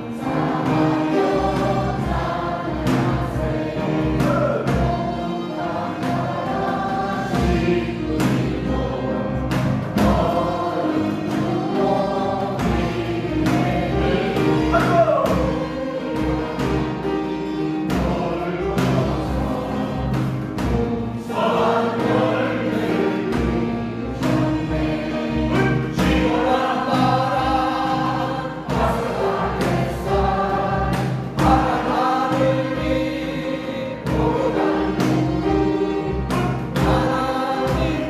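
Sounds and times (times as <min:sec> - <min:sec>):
church choir singing: 0:00.0 - 0:38.0
instrumental accompaniment with beat: 0:00.0 - 0:38.0.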